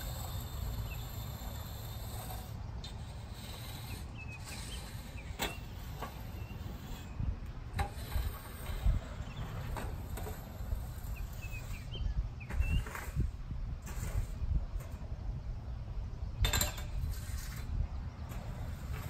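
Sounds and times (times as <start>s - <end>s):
rake scraping soil: 0.0s - 15.8s, 16.5s - 19.0s
low outdoor rumble: 0.0s - 19.0s.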